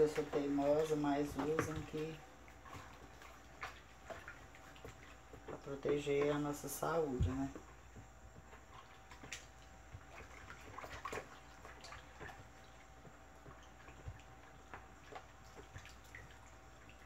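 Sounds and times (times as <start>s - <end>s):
liquid sloshing in a bucket: 0.0s - 17.0s.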